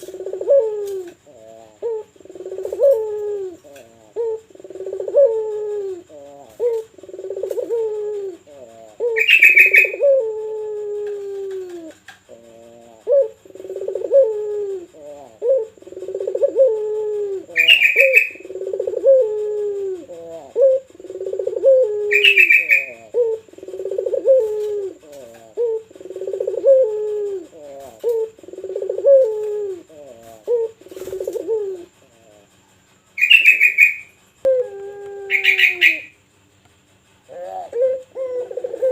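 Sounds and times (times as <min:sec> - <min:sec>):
dove cooing: 0:00.0 - 0:36.3, 0:36.9 - 0:38.9.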